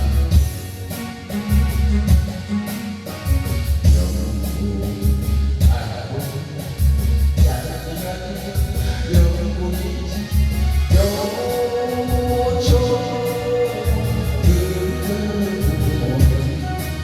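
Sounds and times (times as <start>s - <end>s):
person singing: 0.0s - 17.0s
trot song with steady beat: 0.0s - 17.0s.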